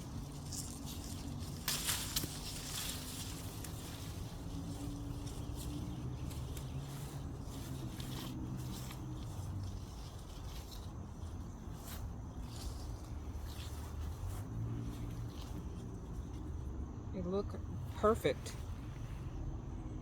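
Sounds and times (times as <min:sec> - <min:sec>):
snaps of fruit being picked: 0:00.0 - 0:16.5
leaves and branches rustling: 0:00.0 - 0:19.5
steady low hum: 0:00.0 - 0:20.0.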